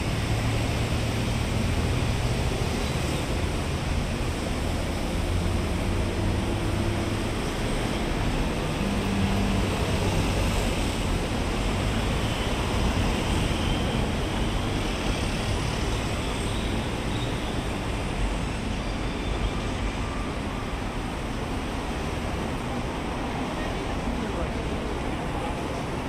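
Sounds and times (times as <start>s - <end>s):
road traffic roar: 0.0s - 26.0s.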